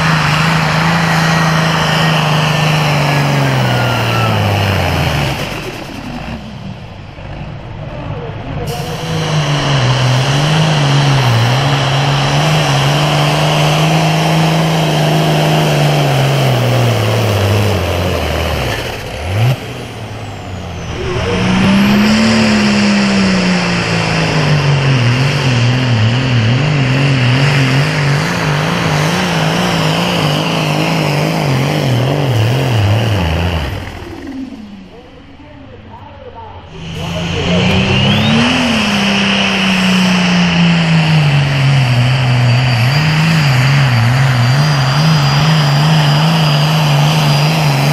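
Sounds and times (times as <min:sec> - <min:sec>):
tractor diesel engine at high revs: 0:00.0 - 0:47.9.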